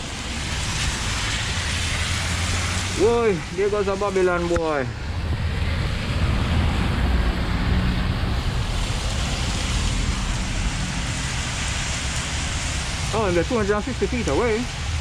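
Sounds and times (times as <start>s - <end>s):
tyre hiss on wet road: 0.0s - 5.4s, 7.3s - 15.0s
vehicle engine rumble passing: 0.0s - 15.0s.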